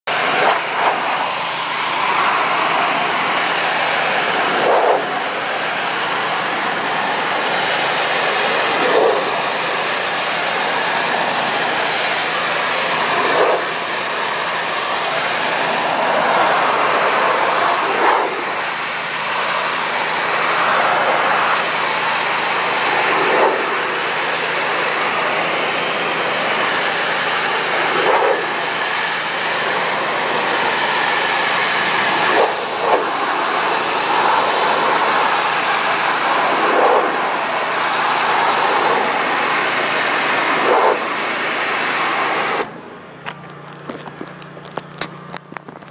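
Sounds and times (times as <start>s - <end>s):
pressure washer spraying: 0.1s - 45.9s.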